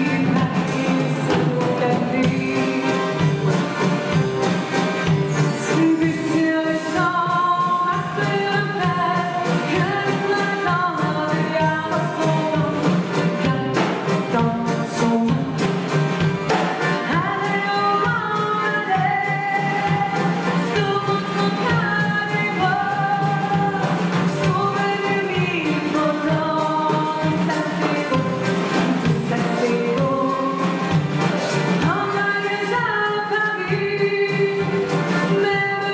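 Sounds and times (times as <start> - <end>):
person singing with accompaniment: 0.0 - 35.9.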